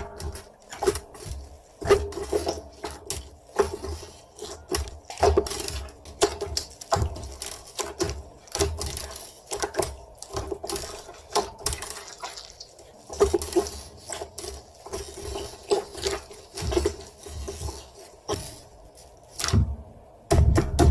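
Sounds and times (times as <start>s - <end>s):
hands squishing slime: 0.0s - 20.9s.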